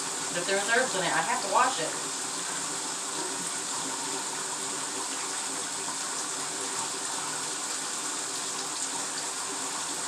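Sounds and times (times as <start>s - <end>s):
water running into bathtub: 0.0s - 10.0s.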